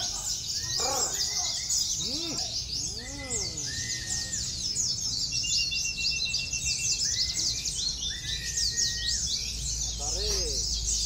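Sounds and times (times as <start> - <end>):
long whistled bird notes: 0.0 - 10.6
birds twittering chorus: 0.0 - 11.0.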